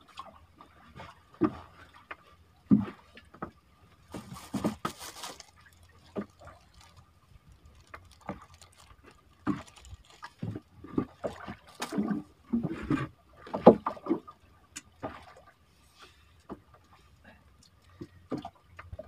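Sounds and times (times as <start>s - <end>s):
water splashing against boat: 0.0s - 19.0s.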